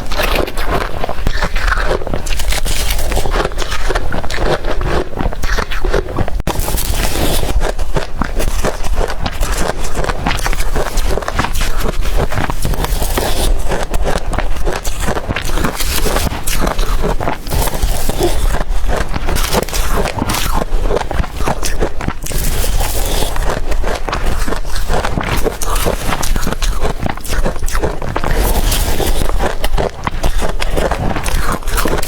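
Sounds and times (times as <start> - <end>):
chewing crunchy ice: 0.0 - 32.0.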